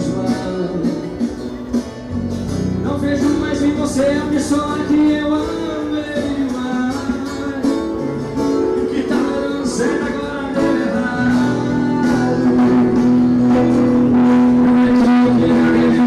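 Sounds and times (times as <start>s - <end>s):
guitar: 0.0s - 16.0s
live band music: 0.0s - 16.0s
person singing: 2.8s - 16.0s.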